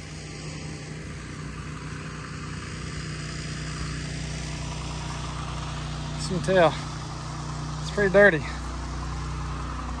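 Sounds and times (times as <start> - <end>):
pressure washer engine running: 0.0 - 10.0.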